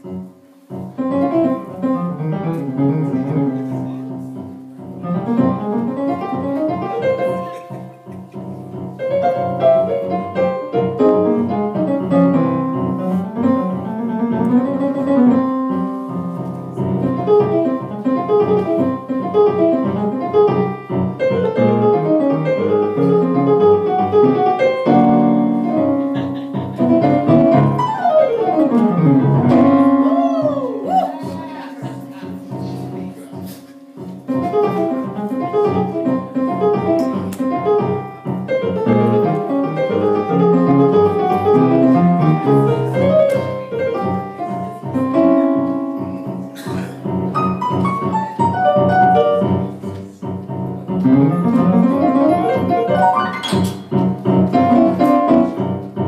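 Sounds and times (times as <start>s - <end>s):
electronic keyboard piano chords: 0.0s - 56.0s.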